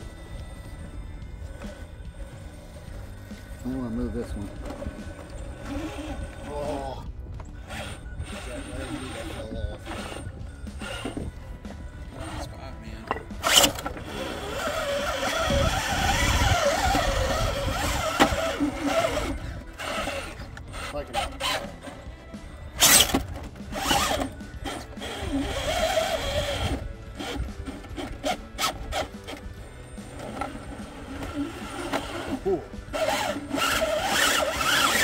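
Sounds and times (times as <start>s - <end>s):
rc car motor whining: 0.0s - 35.0s
tires scraping against rock: 0.0s - 35.0s.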